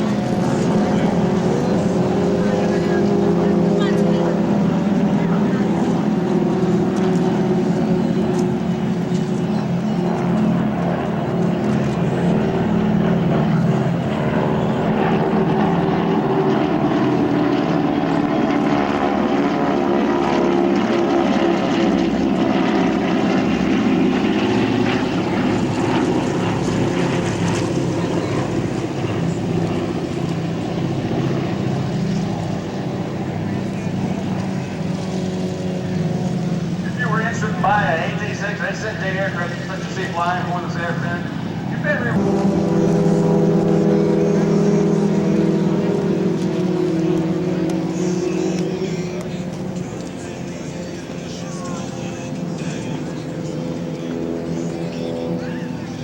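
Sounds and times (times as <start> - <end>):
propeller plane flying by: 0.0 - 56.0.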